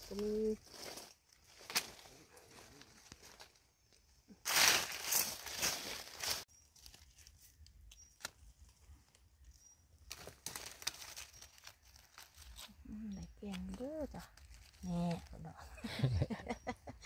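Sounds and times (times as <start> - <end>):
dry leaves rustling and crunching: 0.0 - 3.6, 4.4 - 9.2, 10.0 - 15.4.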